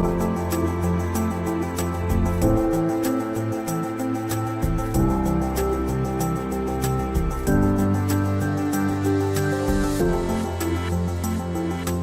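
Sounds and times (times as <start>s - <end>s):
soft new-age music: 0.0s - 12.0s.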